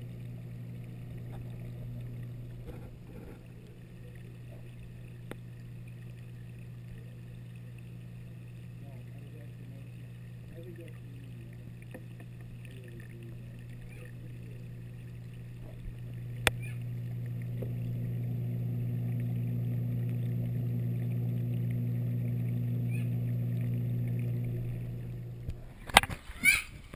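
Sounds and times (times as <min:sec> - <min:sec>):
low electrical pump hum: 0:00.0 - 0:26.9.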